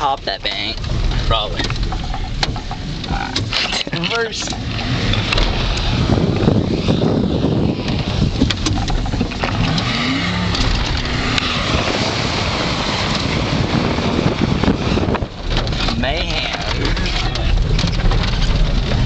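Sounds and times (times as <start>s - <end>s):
pickup truck engine running hard: 0.0s - 19.0s.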